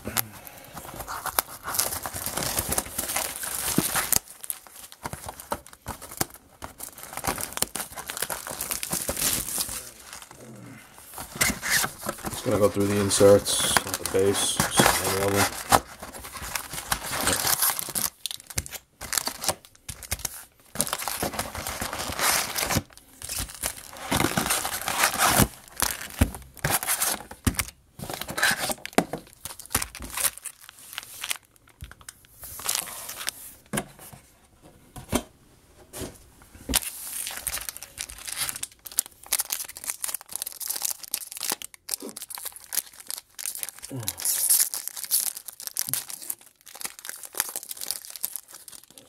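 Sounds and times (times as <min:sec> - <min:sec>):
foil wrapper tearing and crinkling: 0:00.8 - 0:10.3, 0:11.2 - 0:33.4, 0:36.7 - 0:49.0.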